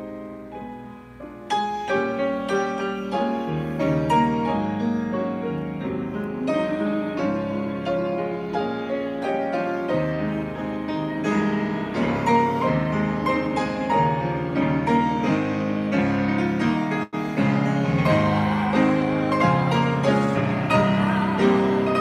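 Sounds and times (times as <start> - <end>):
solo grand piano playing: 0.0 - 22.0.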